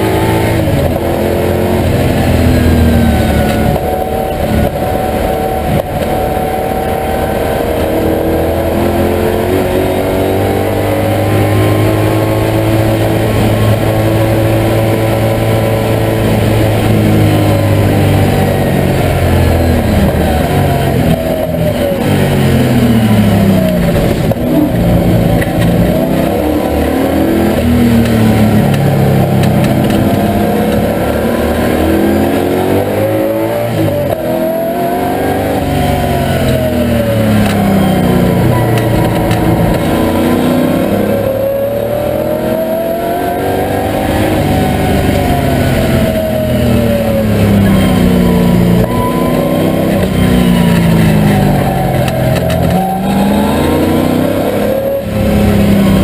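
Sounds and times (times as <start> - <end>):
race car engine under load: 0.0 - 56.0.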